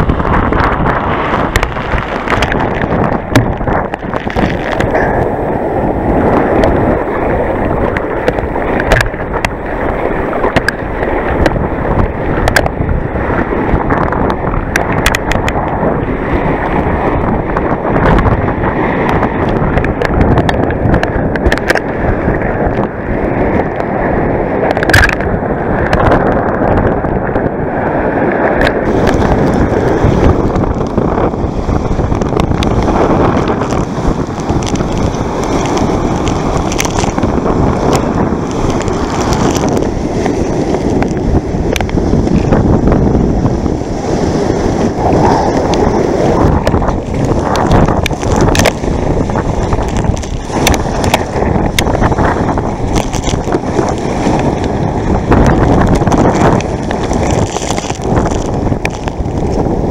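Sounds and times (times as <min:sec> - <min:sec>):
water splashing around a kayak: 0:00.0 - 0:59.9
wind rumbling on microphone: 0:00.0 - 0:59.9.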